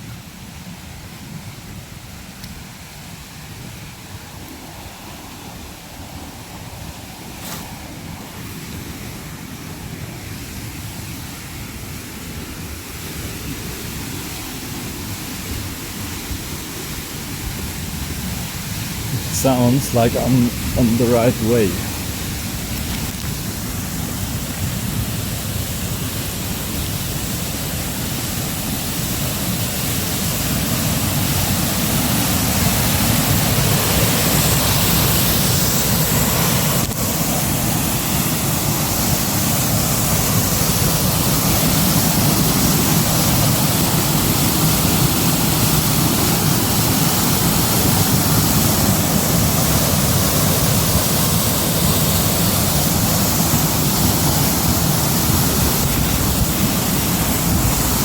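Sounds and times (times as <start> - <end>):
waterfall rushing: 4.2 - 58.0.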